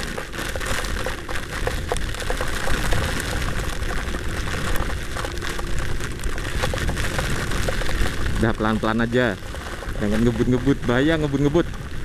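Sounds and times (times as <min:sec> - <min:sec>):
raindrops tapping on camera: 0:00.0 - 0:12.0
wind and rain rushing: 0:00.0 - 0:12.0.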